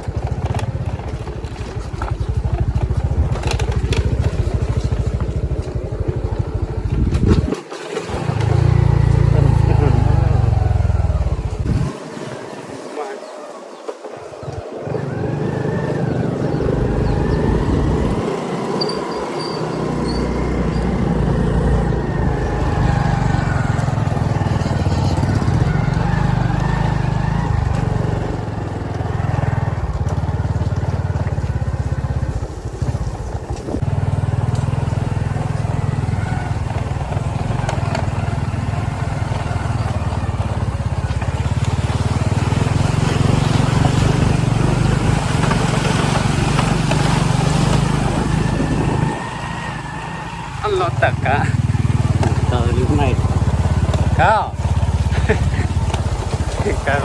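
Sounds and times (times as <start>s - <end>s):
vehicle engine running: 0.0s - 12.0s, 14.4s - 57.0s.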